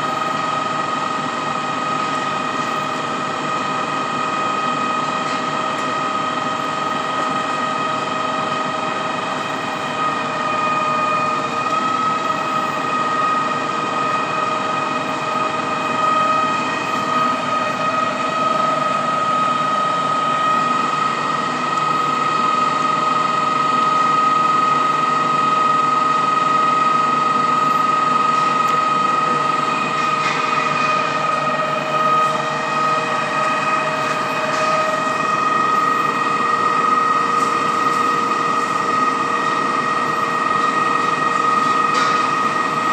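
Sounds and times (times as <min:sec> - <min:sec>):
concrete pump engine whining: 0:00.0 - 0:42.9.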